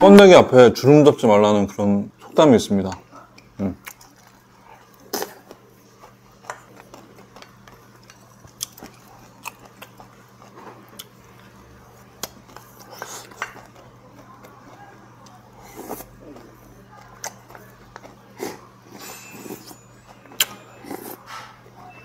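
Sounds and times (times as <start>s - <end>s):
man chewing food: 2.9s - 22.0s.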